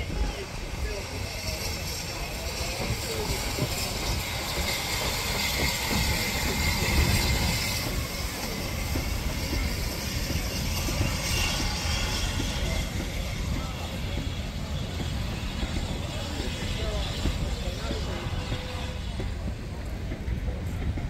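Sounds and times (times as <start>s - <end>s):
steam locomotive passing: 0.0s - 21.0s
wheels rumbling on rails: 0.0s - 21.0s.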